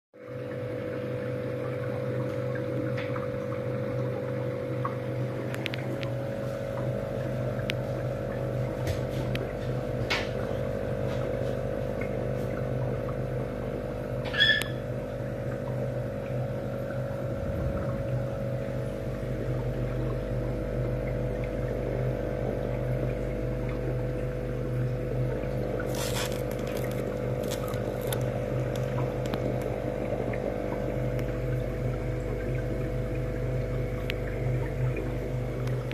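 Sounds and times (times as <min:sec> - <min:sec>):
aquarium pump humming: 0:00.2 - 0:35.9.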